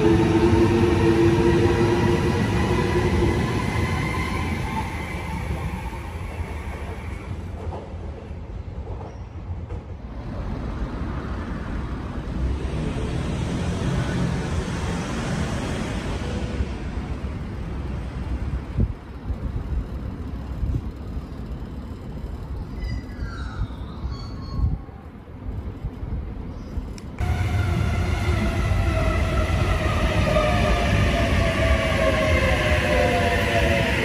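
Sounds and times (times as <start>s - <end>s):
train rumbling on track: 0.0s - 34.0s.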